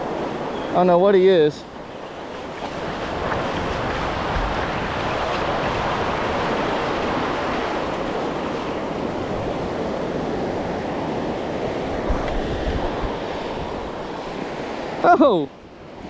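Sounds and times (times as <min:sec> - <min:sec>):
surf washing onto beach: 0:00.0 - 0:16.0
wind buffeting microphone: 0:01.7 - 0:15.0.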